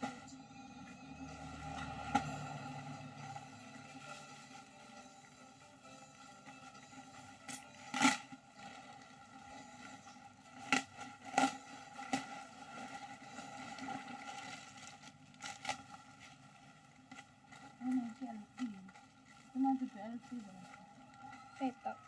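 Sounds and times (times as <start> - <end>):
faint background noise: 0.0 - 22.0.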